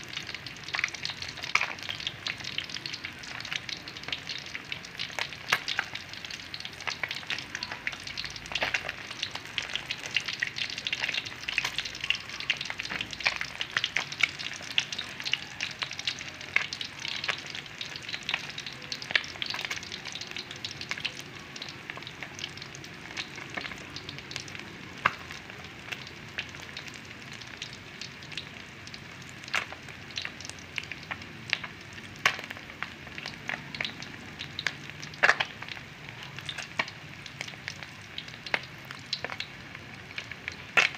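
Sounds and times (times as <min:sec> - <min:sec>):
fish sizzling in oil: 0:00.0 - 0:40.9.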